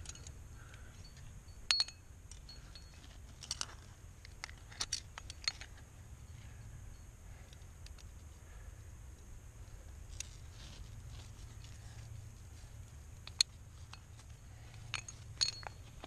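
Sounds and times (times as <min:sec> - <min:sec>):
metal climbing gear clinking: 0:00.0 - 0:08.3, 0:10.0 - 0:12.1, 0:13.2 - 0:16.0.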